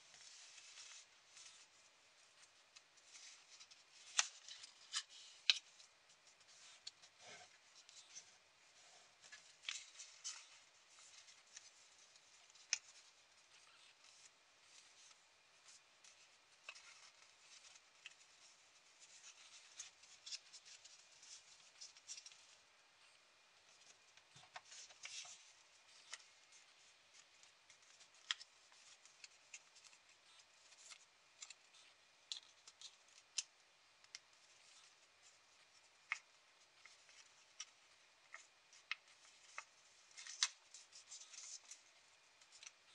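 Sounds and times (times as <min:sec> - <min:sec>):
paper rustling and crackling: 0:00.0 - 0:42.9.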